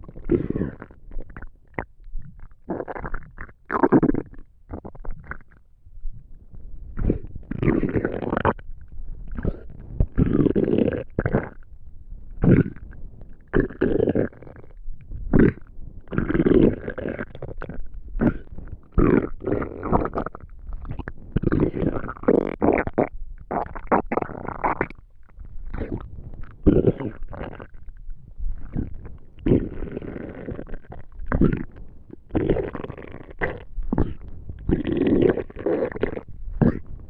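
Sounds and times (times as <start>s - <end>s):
stomach rumbling and gurgling: 0.0s - 37.0s.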